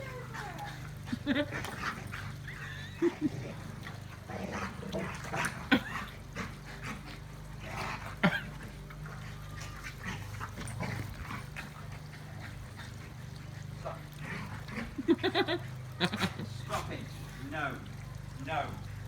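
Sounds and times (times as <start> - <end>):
dogs growling and scuffling: 0.0 - 19.0.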